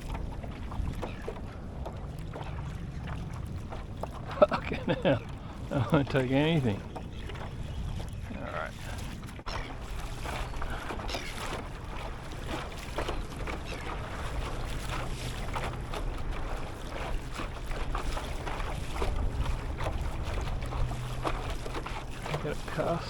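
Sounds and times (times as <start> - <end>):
water lapping against kayak hull: 0.0 - 23.0
wind rumbling on microphone: 0.0 - 23.0.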